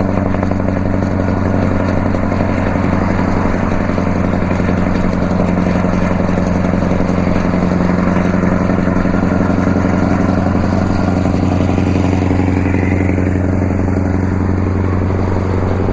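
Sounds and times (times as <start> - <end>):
truck diesel exhaust cruising: 0.0 - 15.9.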